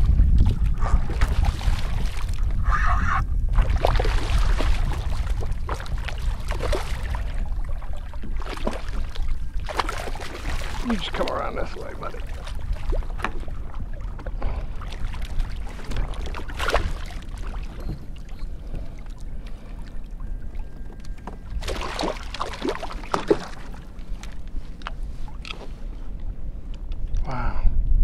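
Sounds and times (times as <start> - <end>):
water splashing around kayak: 0.0 - 27.3.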